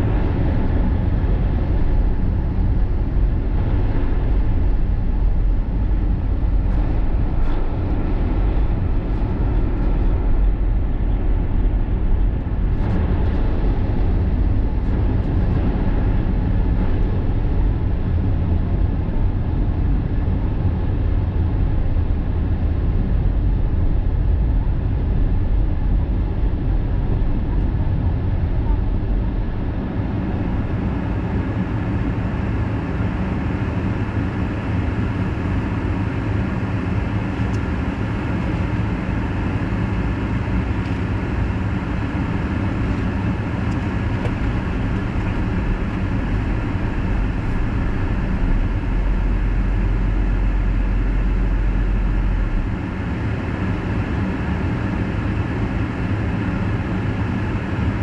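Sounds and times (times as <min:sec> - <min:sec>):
car road and engine noise: 0:00.0 - 0:58.0
deep low rumble: 0:00.0 - 0:58.0.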